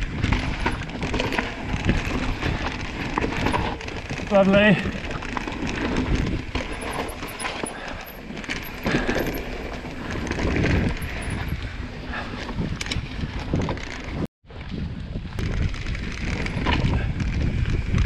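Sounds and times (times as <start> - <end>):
bike chain and frame rattling: 0.0 - 18.0
bike tyres rolling and skidding: 0.0 - 18.0.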